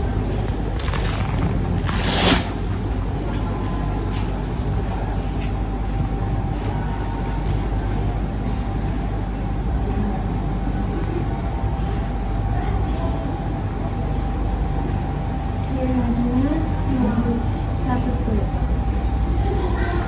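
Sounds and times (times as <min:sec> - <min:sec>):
faint hum: 0:00.0 - 0:20.0
low rumble: 0:00.0 - 0:20.0.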